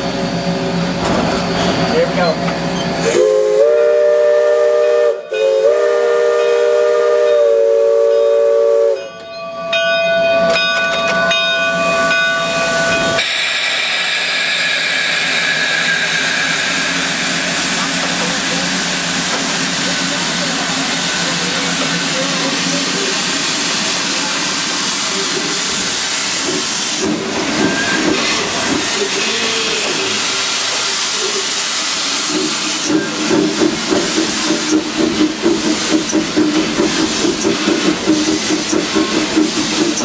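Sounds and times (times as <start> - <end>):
loud steam hiss: 0.1 - 8.0, 13.1 - 40.0.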